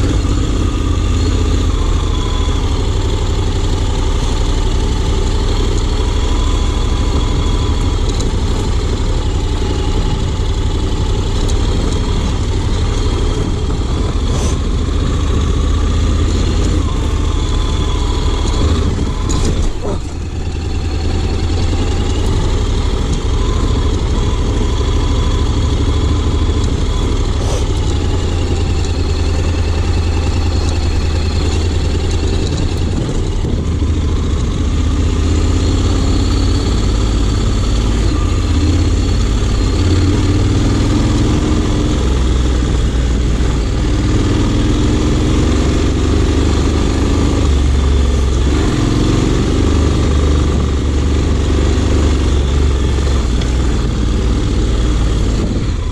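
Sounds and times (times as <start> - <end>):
scooter engine running: 0.0 - 55.9
wind and road noise: 0.0 - 55.9.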